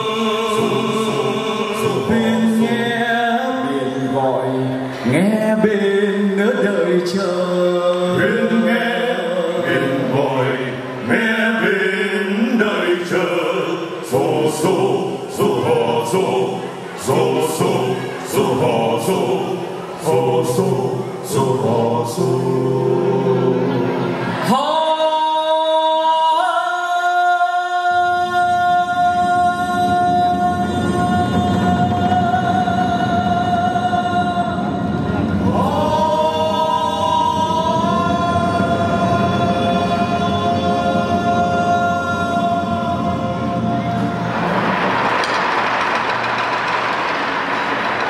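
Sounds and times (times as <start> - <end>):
choir singing: 0.0 - 24.8, 27.9 - 46.0.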